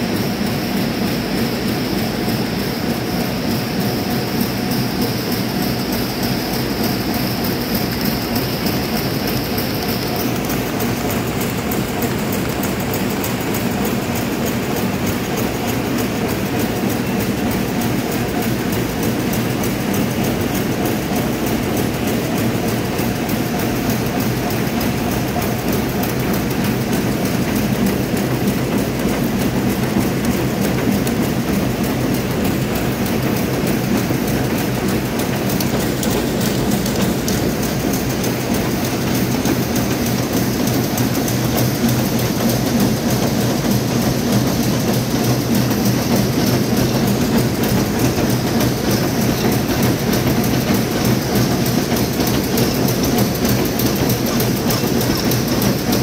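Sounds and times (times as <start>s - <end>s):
low machine hum: 0.0s - 56.0s
machine clattering: 0.0s - 56.0s.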